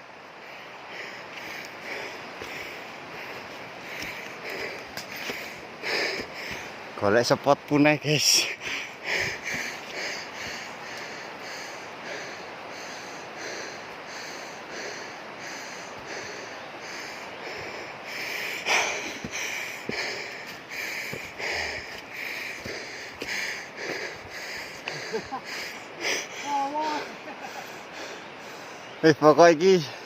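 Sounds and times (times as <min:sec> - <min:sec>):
man breathing heavily: 0:00.0 - 0:07.0, 0:08.2 - 0:29.0.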